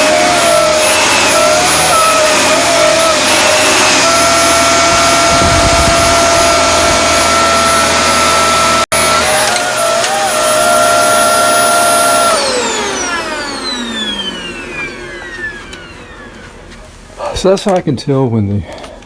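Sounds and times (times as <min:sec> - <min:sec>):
high-pitched vacuum whine: 0:00.0 - 0:17.2
vacuum cleaner running: 0:00.0 - 0:17.3.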